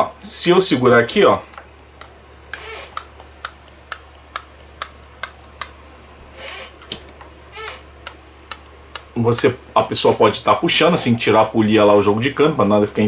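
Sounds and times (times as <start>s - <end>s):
gearbox shaft clicking sharply: 1.0s - 12.8s.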